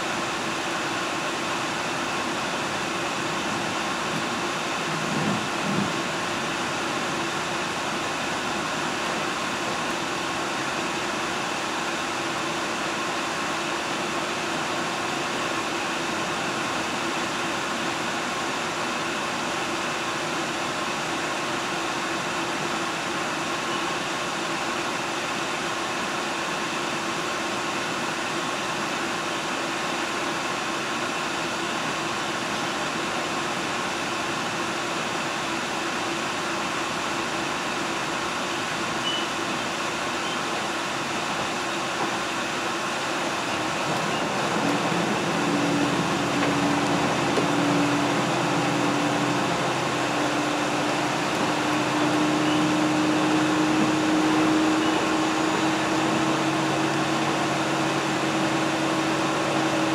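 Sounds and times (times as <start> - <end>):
train cabin running noise: 0.0 - 59.9.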